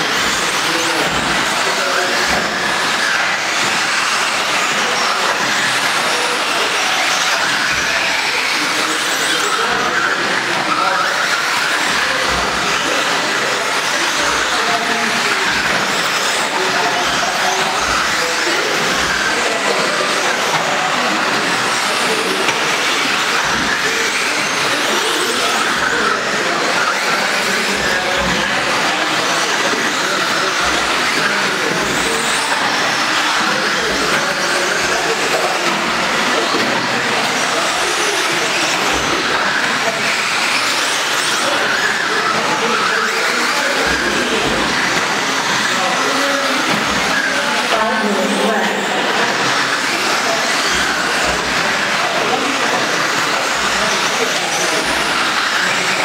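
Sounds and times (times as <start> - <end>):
rc car motors whining: 0.0 - 56.0.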